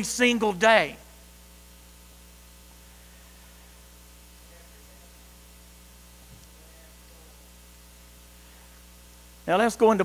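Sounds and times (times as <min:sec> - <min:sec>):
electrical mains hum: 0:00.0 - 0:10.0
faint sound system hiss: 0:00.0 - 0:10.0.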